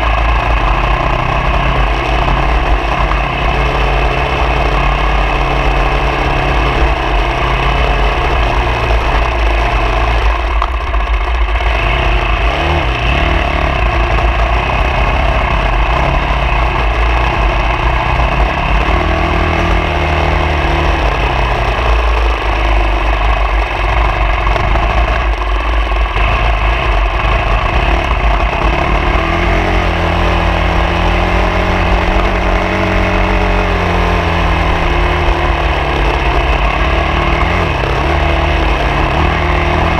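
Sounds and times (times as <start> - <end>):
vehicle engine revving off-road: 0.0 - 39.9.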